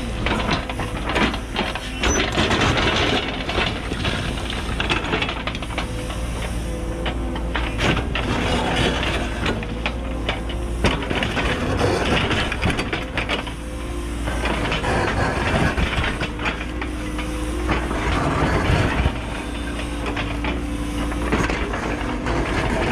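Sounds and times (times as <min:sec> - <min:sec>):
diesel engine and hydraulics drone: 0:00.0 - 0:22.9.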